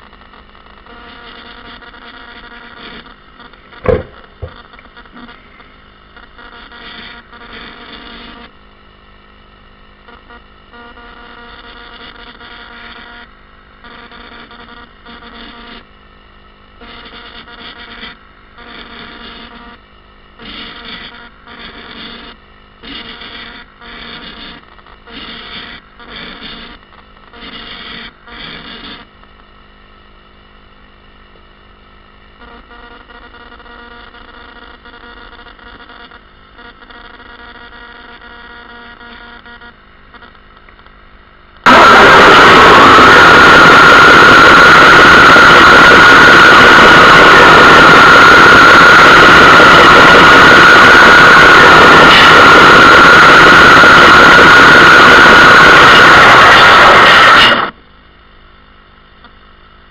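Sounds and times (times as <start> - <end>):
electronic buzzing: 0.0 - 8.6, 9.6 - 16.0, 16.7 - 29.1, 32.3 - 40.4, 41.6 - 57.8.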